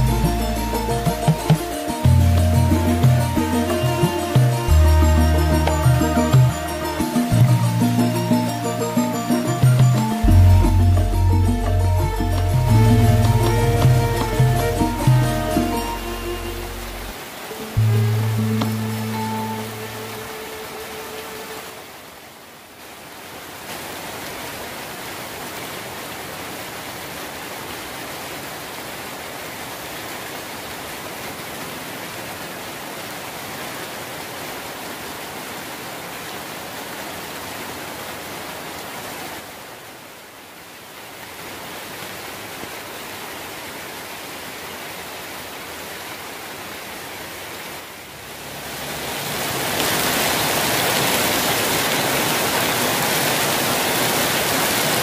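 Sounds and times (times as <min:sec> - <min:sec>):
heavy rain on leaves and roofs: 0:00.0 - 0:55.0.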